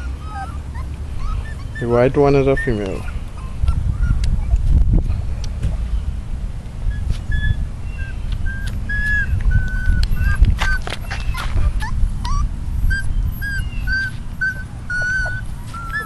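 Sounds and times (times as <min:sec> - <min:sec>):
puppies whimpering and crying: 0:00.0 - 0:04.8, 0:06.9 - 0:16.0
steady low rumble: 0:00.0 - 0:16.0.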